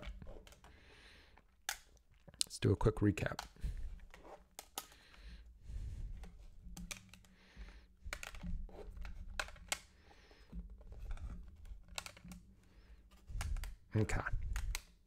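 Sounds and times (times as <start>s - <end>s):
plastic card cases clicking: 0.0s - 2.5s, 3.2s - 5.2s, 6.2s - 15.0s.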